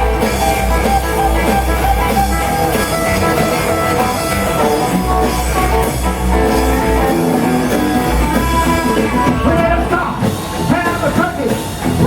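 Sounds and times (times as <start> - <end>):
electric guitar: 0.0 - 12.0
rock band instrumental: 0.0 - 12.0.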